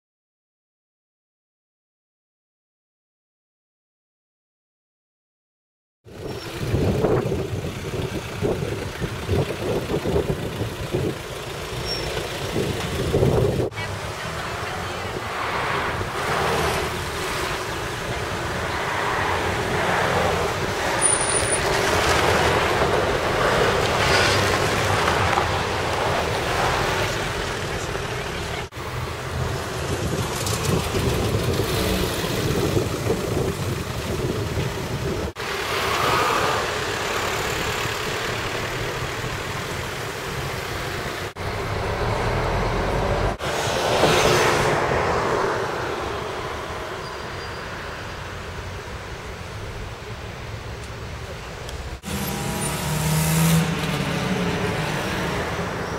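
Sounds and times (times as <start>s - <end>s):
cars driving past: 6.1s - 55.9s.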